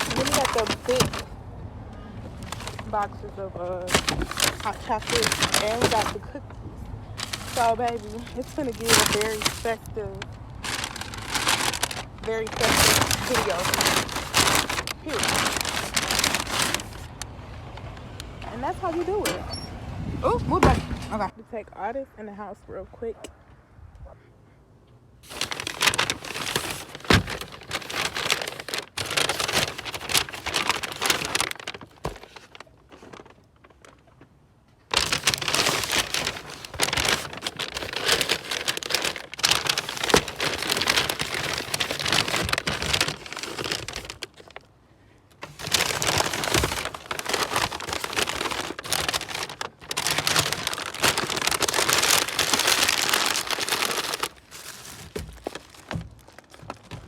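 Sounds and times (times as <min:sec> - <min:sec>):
paper bags rustling and crinkling: 0:00.0 - 0:01.4, 0:02.2 - 0:19.4, 0:25.2 - 0:57.0.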